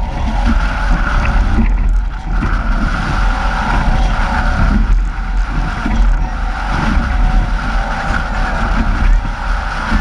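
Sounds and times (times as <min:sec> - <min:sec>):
steady high hum: 0:00.0 - 0:10.0
water rushing past hull: 0:00.0 - 0:10.0
wind buffeting microphone: 0:00.0 - 0:10.0.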